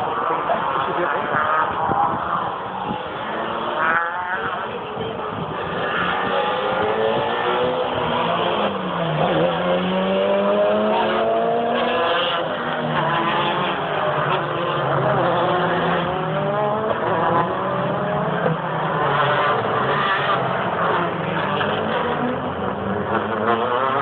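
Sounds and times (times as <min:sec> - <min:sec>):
race cars passing at high revs: 0:00.0 - 0:24.0.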